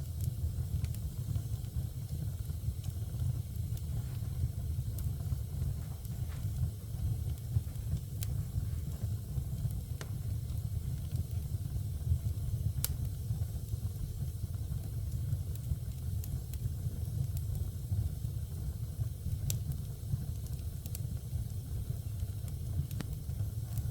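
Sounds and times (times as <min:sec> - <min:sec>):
fire crackling pops: 0:00.0 - 0:23.9
fire rumbling: 0:00.0 - 0:23.9.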